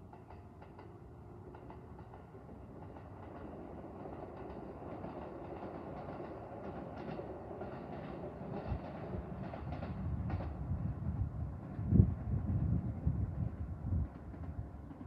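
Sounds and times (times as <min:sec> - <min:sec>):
electric train running on rails: 0:00.0 - 0:15.0.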